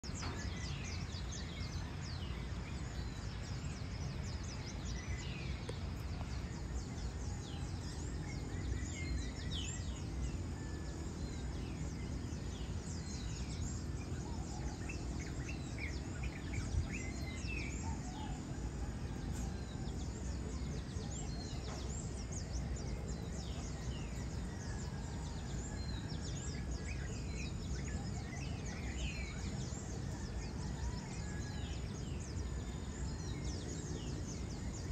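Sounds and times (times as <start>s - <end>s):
birds chirping: 0.0s - 34.9s
low outdoor rumble: 0.0s - 34.9s.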